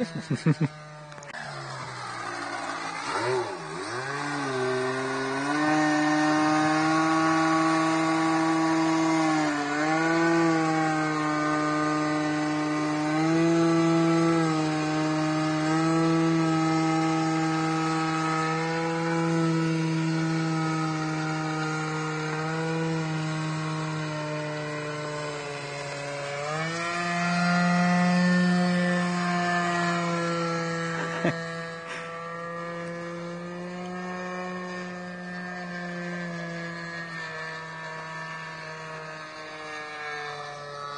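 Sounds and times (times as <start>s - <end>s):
model airplane engine buzzing: 0.0s - 40.9s.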